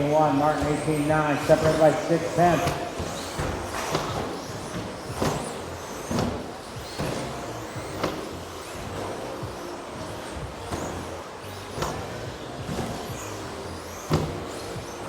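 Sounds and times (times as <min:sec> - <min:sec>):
electric motors whining: 0:00.0 - 0:15.0
tyre and track noise: 0:00.0 - 0:15.0.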